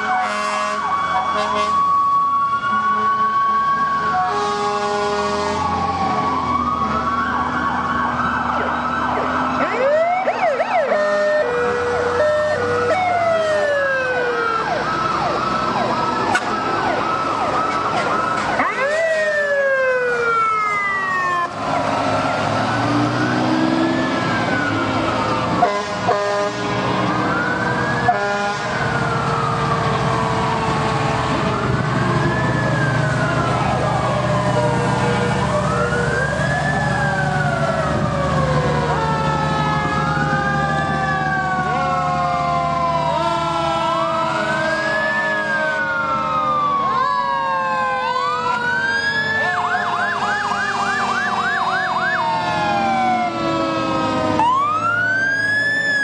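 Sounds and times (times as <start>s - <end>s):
fire truck sirens wailing: 0.0s - 56.0s
truck engines running: 0.0s - 56.0s.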